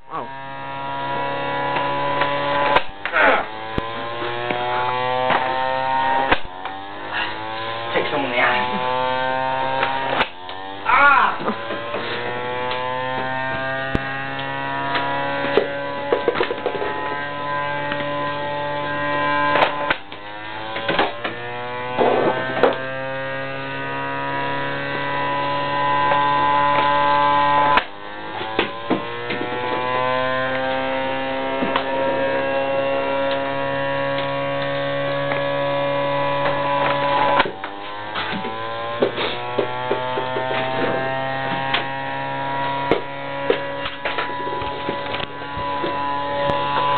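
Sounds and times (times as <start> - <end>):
pitching machine motor whine: 0.1 - 46.9.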